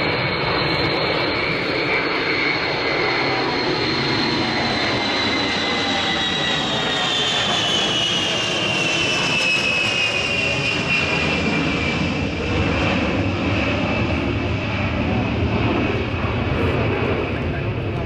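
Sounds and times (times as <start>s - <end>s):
jet engine whine: 0.0s - 18.0s
jet rumble flying past: 0.0s - 18.0s.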